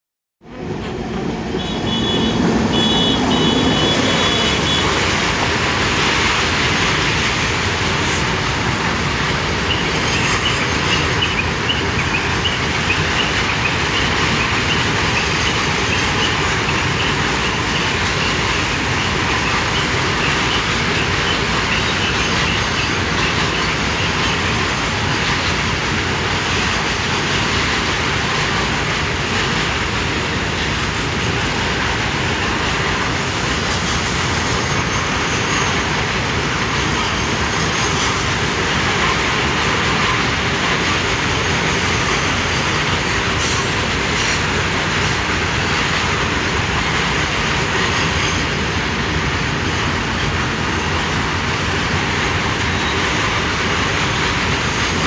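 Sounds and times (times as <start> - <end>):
electric locomotive passing: 0.4 - 55.0
freight wagons rolling on track: 0.4 - 55.0.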